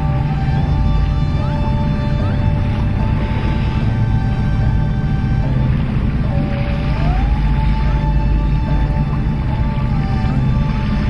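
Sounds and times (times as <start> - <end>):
steady low rumble: 0.0 - 11.0
sustained tones with rising glides: 0.0 - 11.0.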